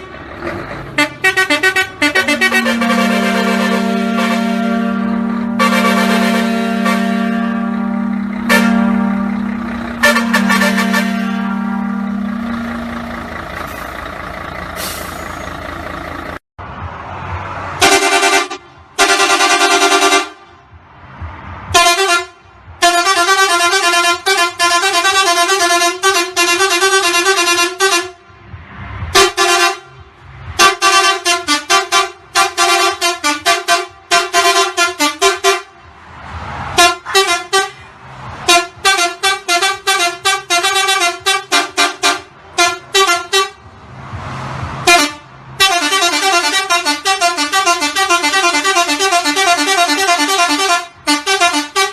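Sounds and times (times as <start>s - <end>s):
vehicle horn honking: 1.0s - 13.9s, 17.8s - 20.5s, 21.7s - 28.2s, 29.1s - 30.0s, 30.6s - 35.7s, 36.8s - 37.9s, 38.5s - 43.6s, 44.8s - 51.9s.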